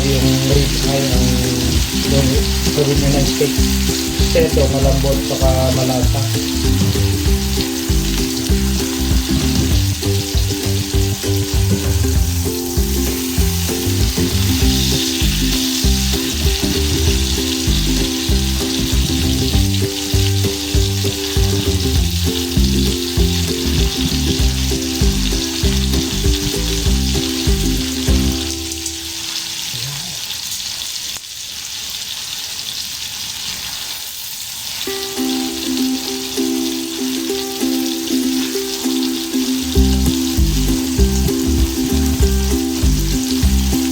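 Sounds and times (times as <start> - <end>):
background music: 0.0 - 29.1, 34.9 - 43.9
steak sizzling in a pan: 0.0 - 43.9.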